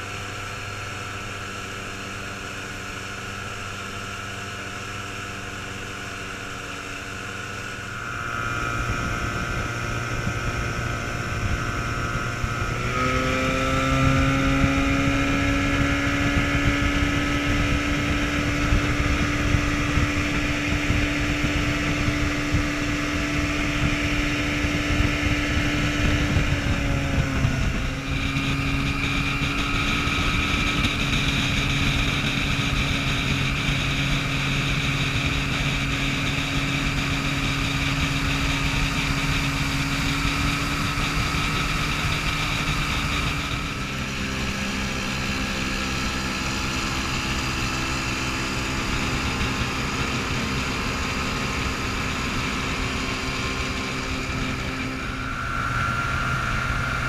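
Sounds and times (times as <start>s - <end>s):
outboard motors running: 0.0s - 57.0s
wind: 0.0s - 57.0s.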